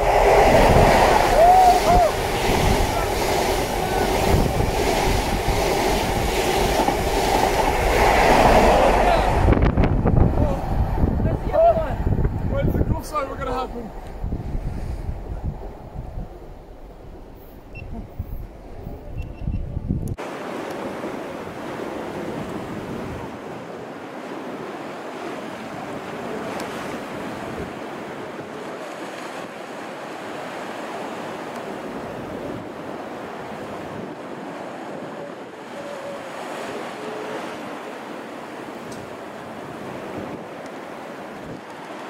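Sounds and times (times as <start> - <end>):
waves breaking on shore: 0.0 - 19.1, 20.2 - 42.0
wind blowing on microphone: 0.0 - 42.0.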